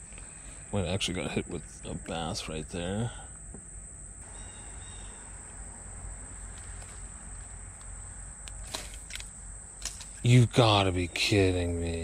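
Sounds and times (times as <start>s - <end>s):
high-pitched insect chorus: 0.0s - 12.0s
low outdoor rumble: 0.0s - 12.0s.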